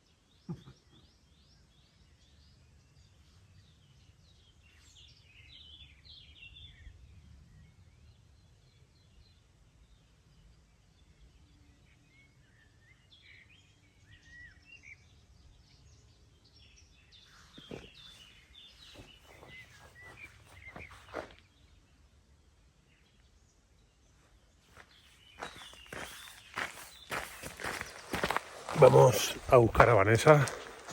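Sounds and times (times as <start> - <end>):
songbirds singing and chirping: 0.0 - 30.9.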